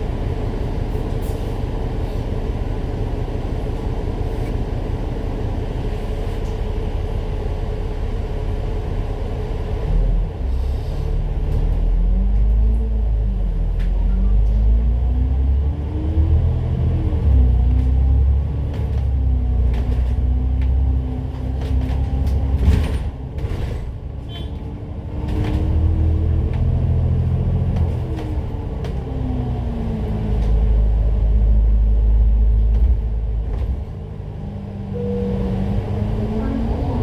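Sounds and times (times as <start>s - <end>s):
bus engine running: 0.0s - 37.0s.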